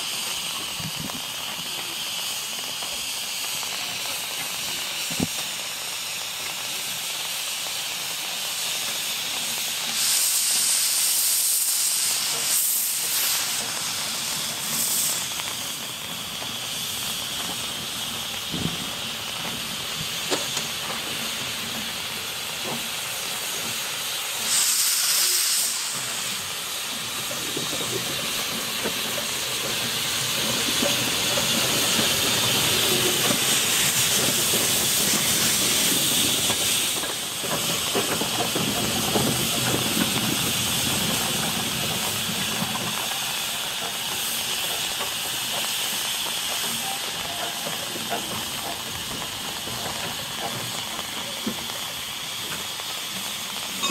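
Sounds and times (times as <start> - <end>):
steam locomotive hissing: 0.0 - 53.9.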